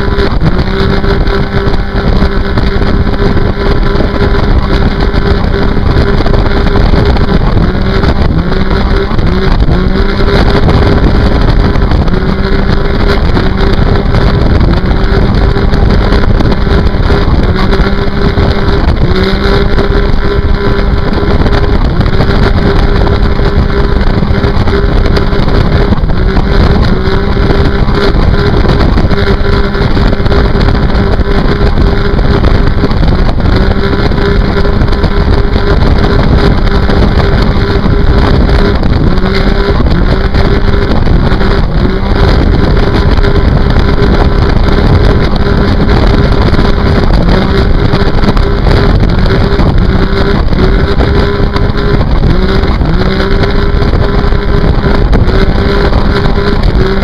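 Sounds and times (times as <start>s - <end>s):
personal watercraft engine revving: 0.0s - 57.0s
wind rushing: 0.0s - 57.0s.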